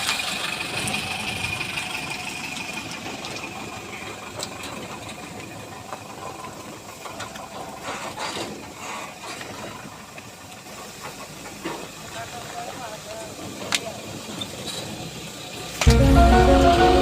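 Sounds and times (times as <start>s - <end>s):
diesel engine knocking rattle: 0.0s - 15.8s.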